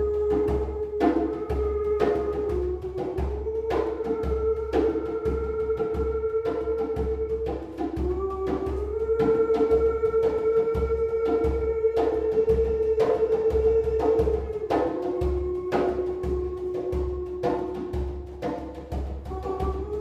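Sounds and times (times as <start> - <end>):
hand drum beating: 0.0 - 20.0.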